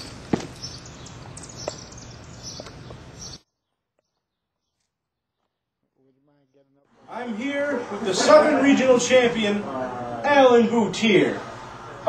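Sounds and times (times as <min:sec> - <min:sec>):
outdoor background noise: 0:00.0 - 0:06.0, 0:06.8 - 0:12.0.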